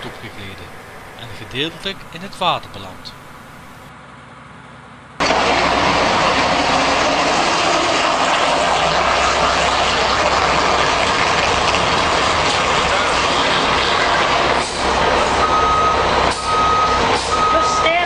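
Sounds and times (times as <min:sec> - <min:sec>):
concrete mixer truck roaring: 0:00.0 - 0:18.0.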